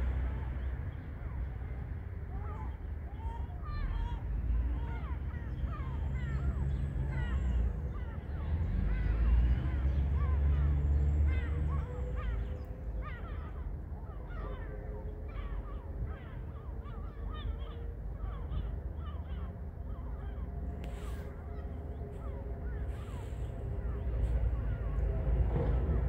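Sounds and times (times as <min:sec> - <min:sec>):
birds chirping: 0:02.3 - 0:26.0.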